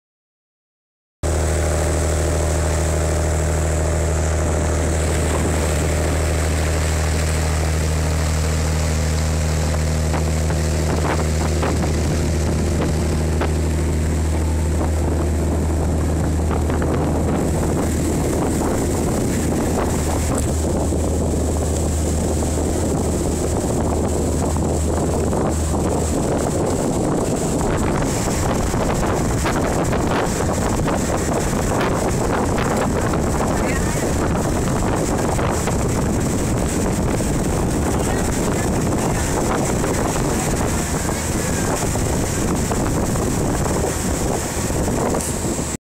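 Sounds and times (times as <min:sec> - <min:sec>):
diesel engine droning: 0:01.2 - 0:45.8
rush of water: 0:01.2 - 0:45.8
wind on microphone: 0:01.2 - 0:45.8.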